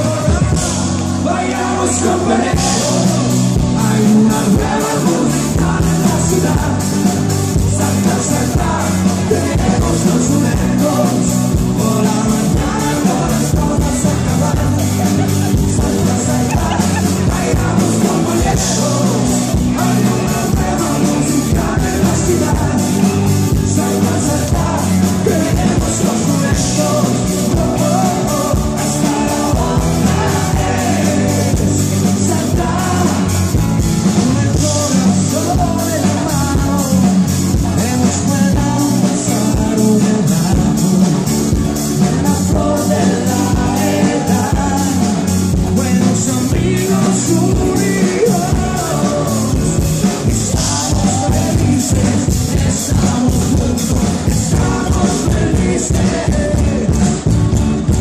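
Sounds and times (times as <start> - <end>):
live pop band playing: 0.0 - 58.0
man singing: 0.0 - 58.0.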